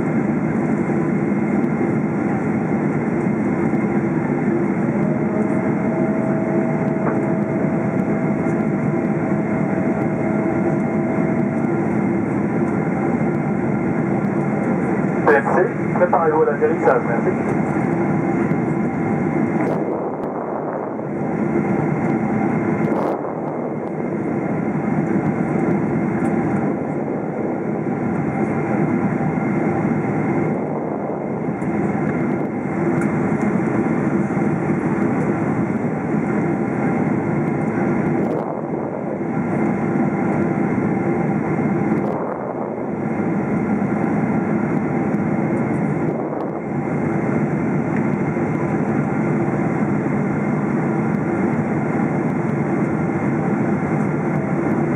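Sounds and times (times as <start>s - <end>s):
aircraft cabin drone: 0.0s - 54.9s
faint steady tones: 0.1s - 54.9s.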